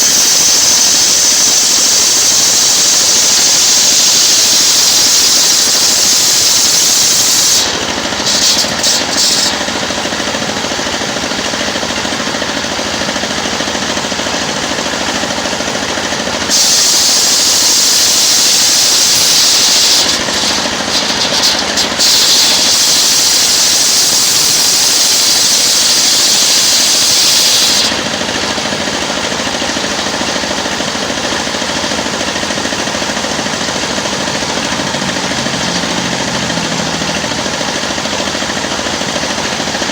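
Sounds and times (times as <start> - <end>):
saw blade hissing through wood: 0.0 - 11.6, 16.0 - 39.6
sawmill engine running: 0.0 - 39.9.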